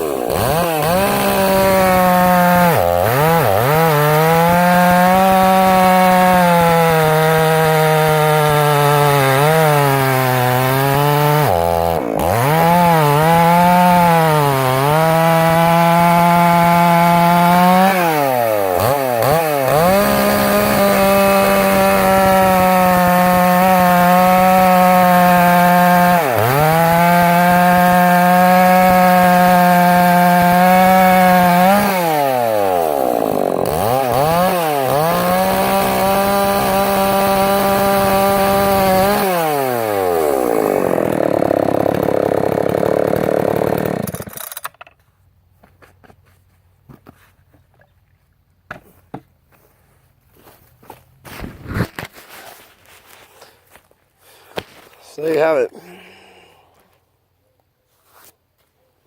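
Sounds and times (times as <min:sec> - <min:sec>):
chainsaw cutting hard wood: 0:00.0 - 0:44.9, 0:51.4 - 0:56.8.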